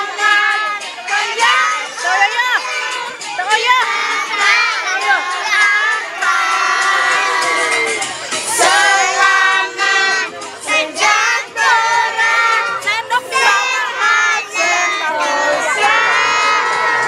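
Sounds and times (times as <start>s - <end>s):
children and women singing: 0.0s - 17.0s.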